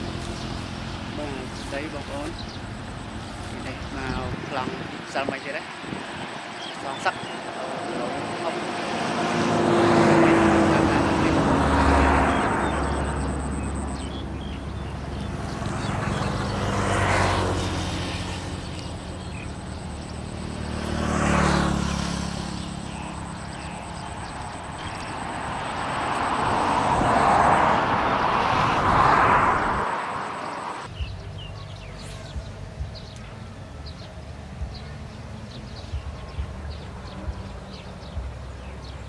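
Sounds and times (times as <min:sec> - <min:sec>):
broad rushing noise: 0:00.0 - 0:39.0
low engine hum: 0:07.1 - 0:39.0.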